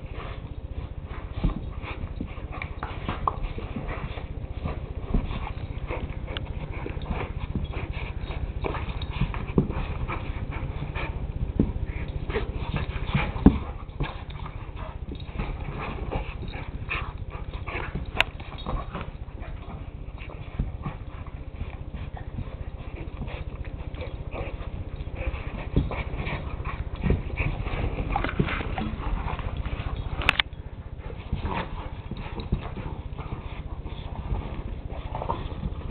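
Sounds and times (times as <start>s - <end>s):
dog play sounds: 0.0s - 35.9s
dogs scuffling on carpet: 0.0s - 35.9s
low steady hum: 0.0s - 35.9s.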